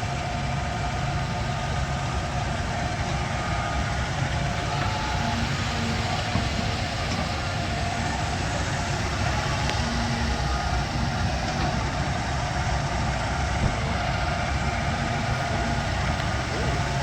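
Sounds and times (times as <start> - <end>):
excavator diesel engine under load: 0.0 - 17.0.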